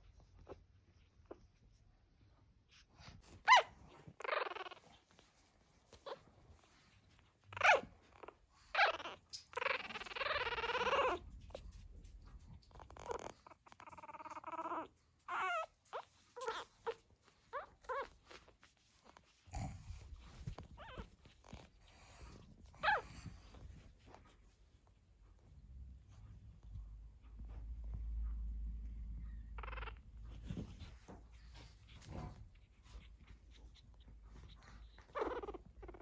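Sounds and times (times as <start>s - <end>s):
puppies whining and squeaking: 2.7s - 24.5s, 28.8s - 36.0s.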